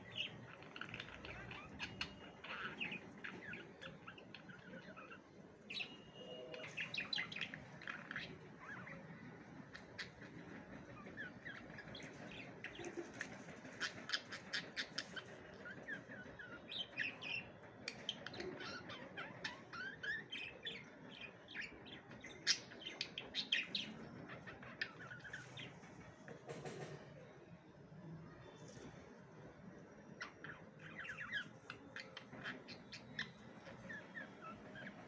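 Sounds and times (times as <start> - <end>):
budgerigars chattering: 0.0 - 9.0, 9.7 - 25.8, 30.2 - 35.0.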